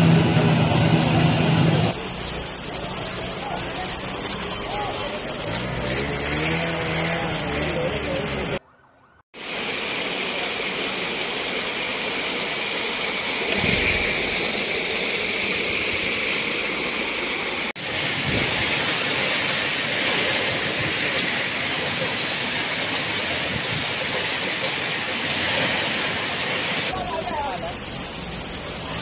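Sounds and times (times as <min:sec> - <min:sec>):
heavy rain pouring: 0:00.0 - 0:08.6, 0:09.4 - 0:29.0.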